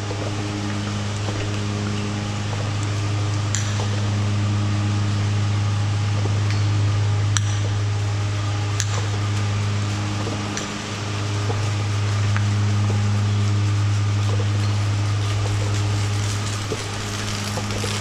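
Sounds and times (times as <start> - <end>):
constant hiss: 0.0 - 18.0
low electric hum: 0.0 - 18.0.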